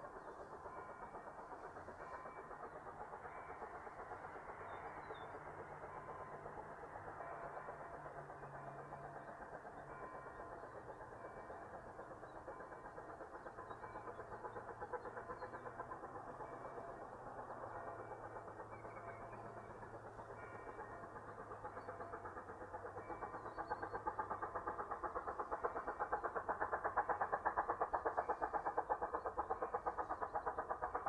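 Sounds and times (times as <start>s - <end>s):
locomotive engine droning: 0.0s - 31.0s
train wheels clattering: 0.0s - 31.0s.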